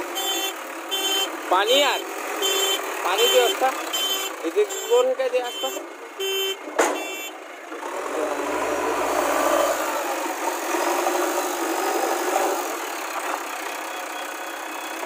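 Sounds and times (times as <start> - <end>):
diesel engine of backhoe loader: 0.0 - 4.9, 5.8 - 15.0.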